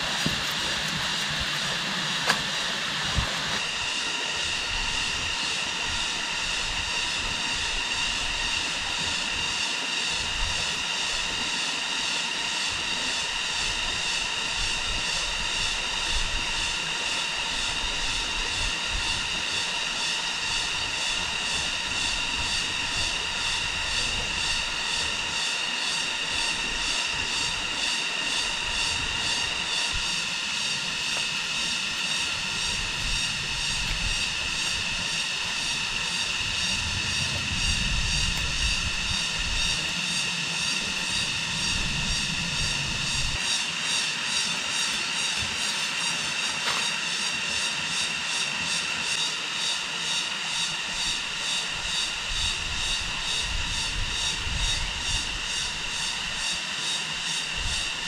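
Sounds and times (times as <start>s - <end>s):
high-pitched pulsing buzzing drone: 0.0s - 58.0s.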